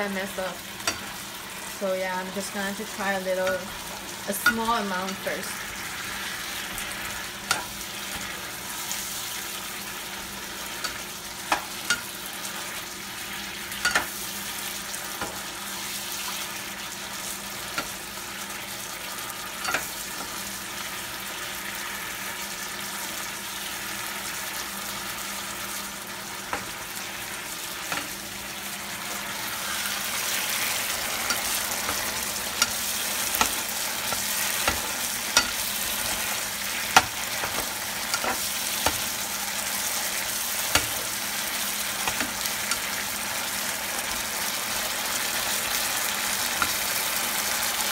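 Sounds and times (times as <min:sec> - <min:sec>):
shrimp sizzling in a frying pan: 0:00.0 - 0:47.9.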